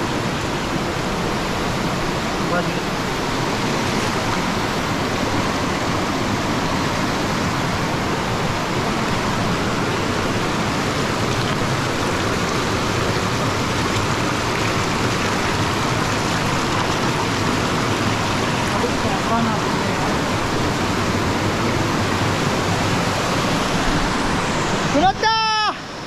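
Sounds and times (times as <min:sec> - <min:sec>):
stream rushing over boulders: 0:00.0 - 0:26.0.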